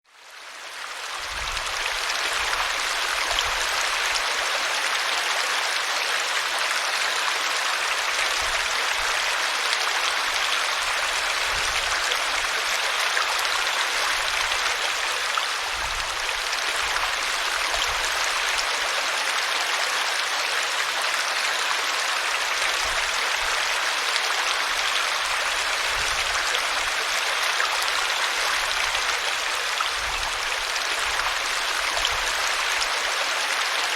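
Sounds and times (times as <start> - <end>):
river water rushing: 0.4 - 33.9.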